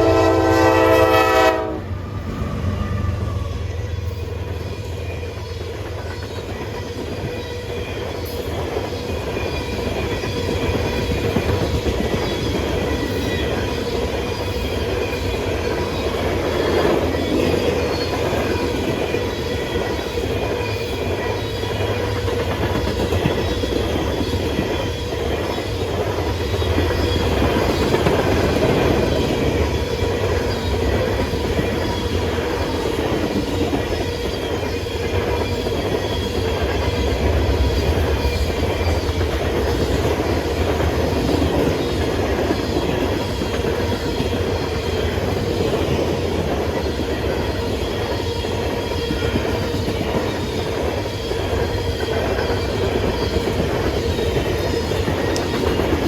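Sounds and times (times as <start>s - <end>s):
freight train wheels clacking: 0.0s - 56.0s
train wheels squealing on rail: 0.0s - 56.0s.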